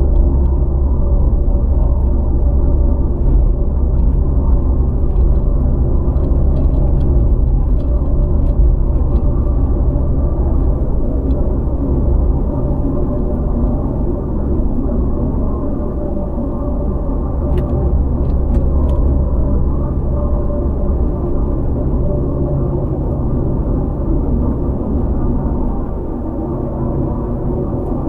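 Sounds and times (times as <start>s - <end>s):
car engine: 0.0s - 28.0s
road rumble: 0.0s - 28.0s.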